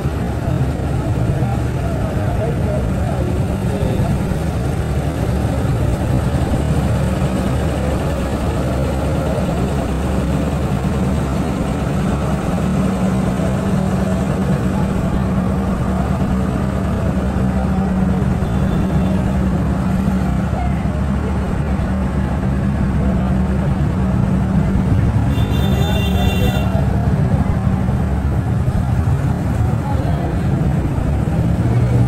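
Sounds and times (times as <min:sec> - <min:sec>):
traffic engine noise: 0:00.0 - 0:32.0.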